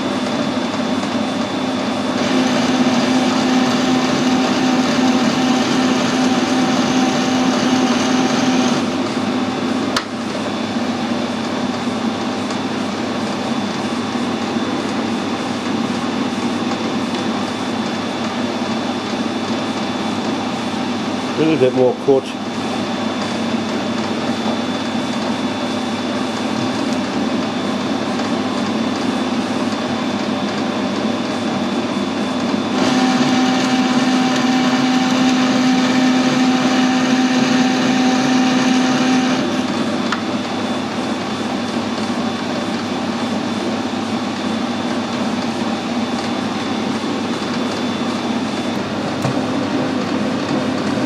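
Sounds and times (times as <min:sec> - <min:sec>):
lathe hum and whine threading: 0:00.0 - 0:51.0
metal lathe running: 0:00.0 - 0:51.0.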